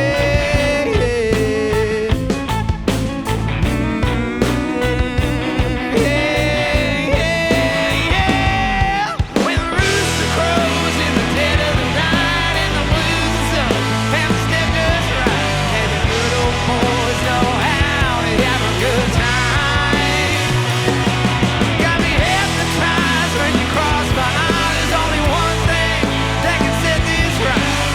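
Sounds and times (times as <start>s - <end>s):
bending guitar notes: 0.0s - 9.2s, 9.8s - 27.9s
rock band playing: 0.0s - 27.9s.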